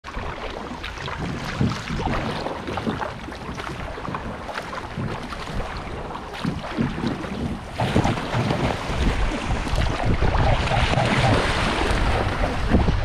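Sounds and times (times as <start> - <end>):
water rushing and splashing: 0.0 - 13.0
wind on microphone: 0.1 - 13.0.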